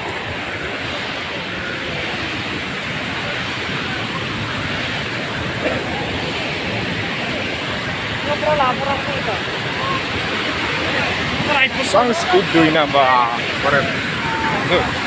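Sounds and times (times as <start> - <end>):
faint voices: 0.0 - 15.0
waterfall and river rapids rushing: 0.0 - 15.0.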